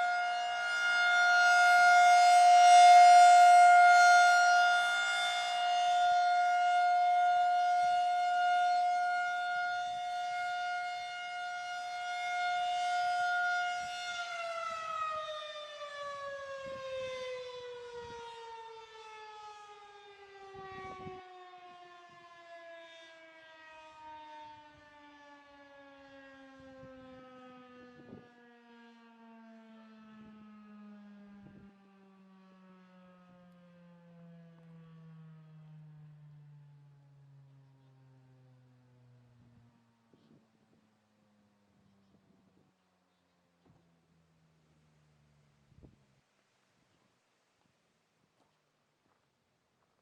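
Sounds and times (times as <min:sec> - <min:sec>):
warning siren winding down: 0:00.0 - 0:40.8.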